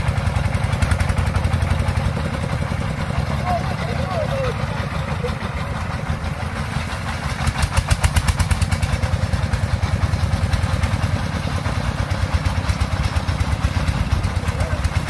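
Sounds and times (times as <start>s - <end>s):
diesel engine chugging: 0.0s - 15.0s.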